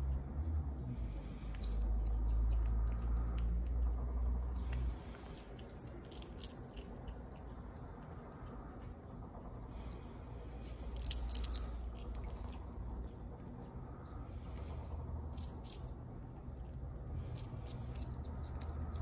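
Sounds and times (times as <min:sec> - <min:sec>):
low steady hum: 0:00.0 - 0:19.0
marmoset chewing food: 0:00.1 - 0:19.0.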